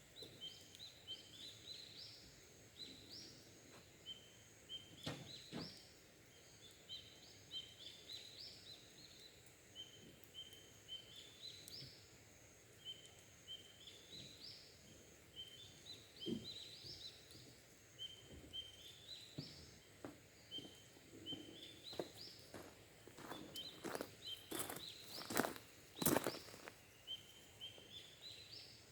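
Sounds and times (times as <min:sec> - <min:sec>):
songbird singing: 0:00.0 - 0:12.1, 0:12.8 - 0:28.9.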